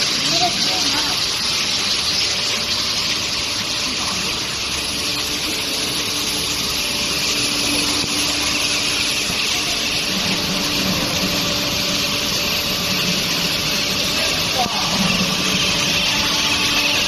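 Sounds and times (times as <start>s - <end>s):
industrial machinery hiss and drone: 0.0s - 17.0s.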